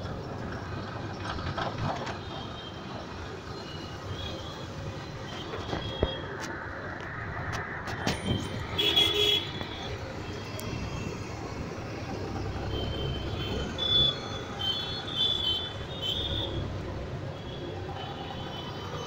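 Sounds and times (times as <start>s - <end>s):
rickshaw engine and road noise: 0.0s - 19.0s.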